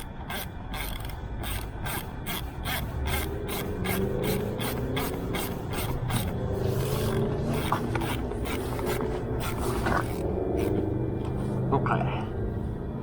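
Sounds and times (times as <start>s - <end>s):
ratchet tool clicking: 0.0s - 10.9s
low hum: 0.0s - 13.0s.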